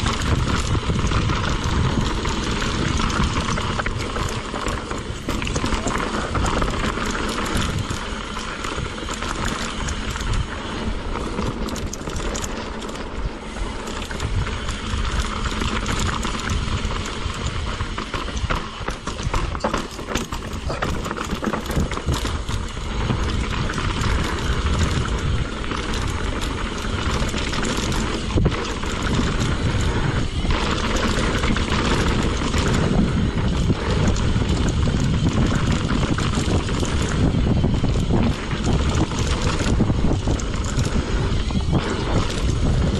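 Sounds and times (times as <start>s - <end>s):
bike tyres on dirt trail: 0.0s - 42.9s
chain and frame rattling: 0.0s - 42.9s
wind noise: 0.0s - 42.9s.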